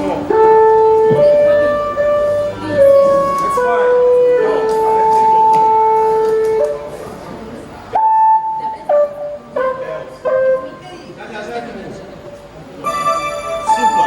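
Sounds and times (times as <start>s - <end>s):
long held musical notes: 0.0s - 11.0s, 12.8s - 14.0s.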